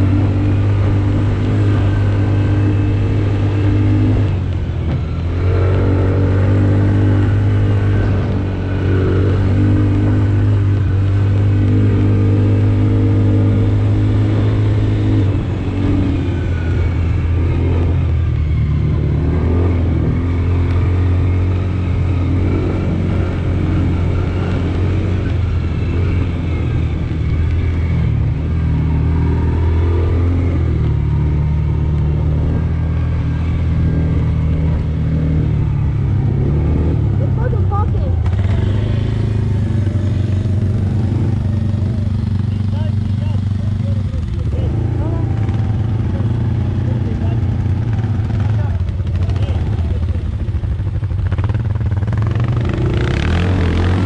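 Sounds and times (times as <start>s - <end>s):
vehicle engine running under load: 0.0s - 54.0s.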